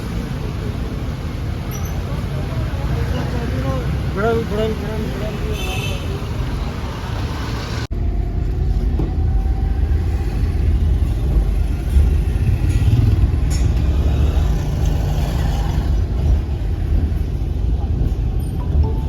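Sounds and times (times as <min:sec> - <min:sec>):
rumble of passing vehicle engines: 0:00.0 - 0:19.0.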